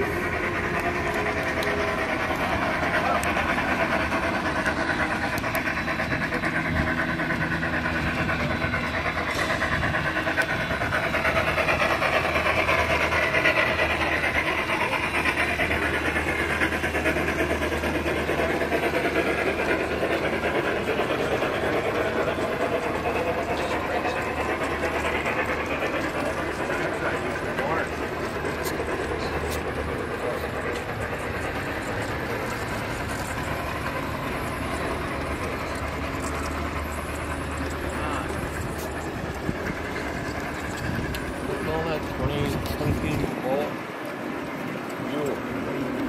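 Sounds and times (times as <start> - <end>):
indistinct chatter: 0.0 - 46.0
model trains running: 0.0 - 46.0.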